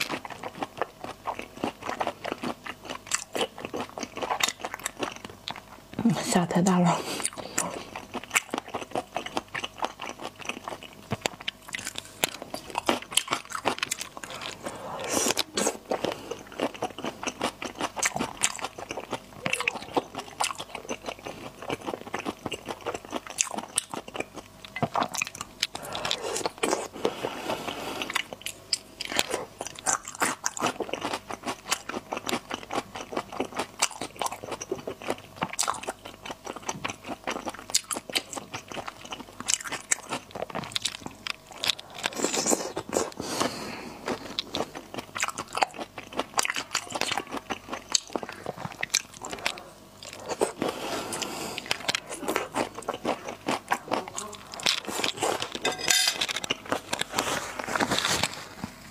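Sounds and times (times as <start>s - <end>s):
wet chewing and crunching: 0.0s - 58.9s.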